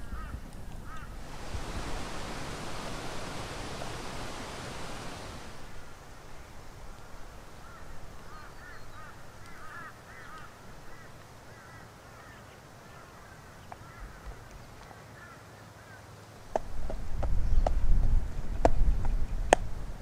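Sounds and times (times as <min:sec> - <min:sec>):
birds calling: 0:00.0 - 0:19.5.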